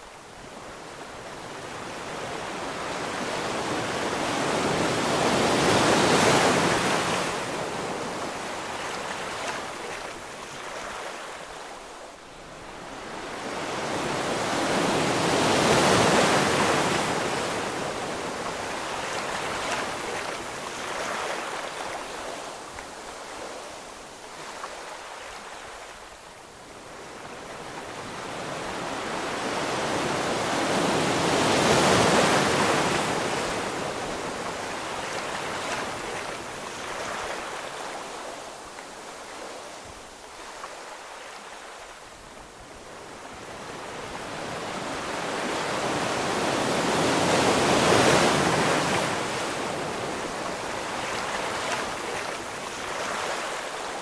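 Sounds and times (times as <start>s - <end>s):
ocean waves: 0.0s - 54.0s.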